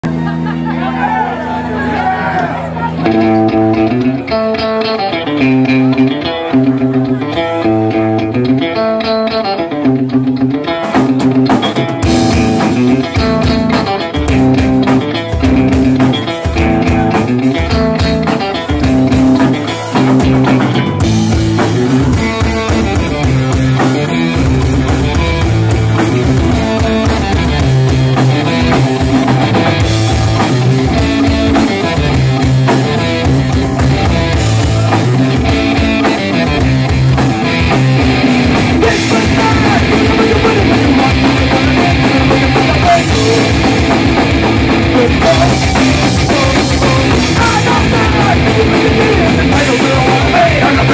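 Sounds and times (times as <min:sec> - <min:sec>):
punk rock band playing: 0:00.0 - 0:50.9.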